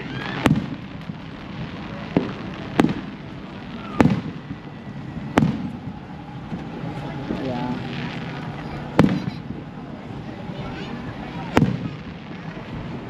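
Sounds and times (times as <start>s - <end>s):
fireworks exploding: 0.0s - 13.0s.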